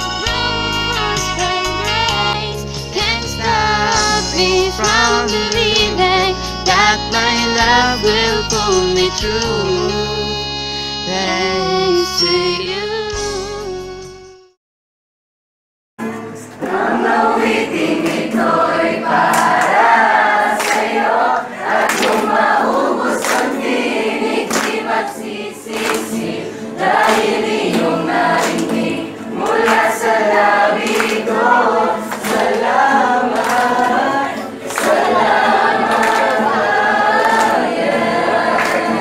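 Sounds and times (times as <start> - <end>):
young voices singing together: 0.0 - 10.3, 16.0 - 39.0.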